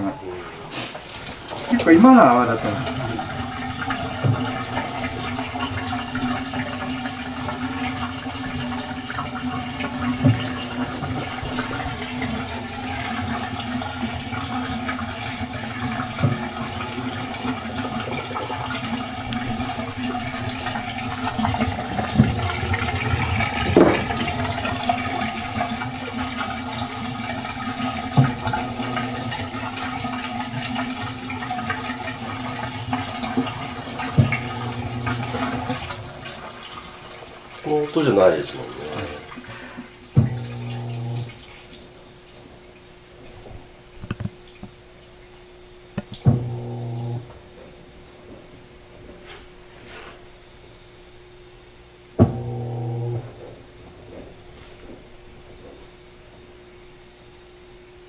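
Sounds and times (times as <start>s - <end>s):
water sloshing in washing machine: 0.0s - 50.4s, 52.2s - 58.0s
washing machine motor hum: 0.0s - 58.0s.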